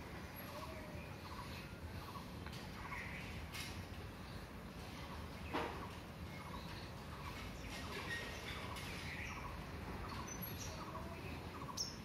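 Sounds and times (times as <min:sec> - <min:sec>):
birds chirping faintly: 0:00.0 - 0:12.0
low background hum: 0:00.0 - 0:12.0.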